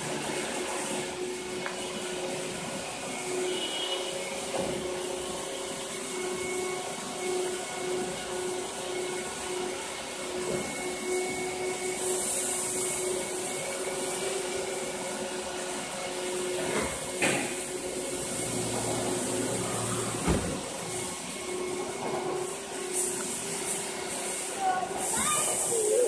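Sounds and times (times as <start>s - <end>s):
car wash brushes whirring: 0.0s - 26.0s.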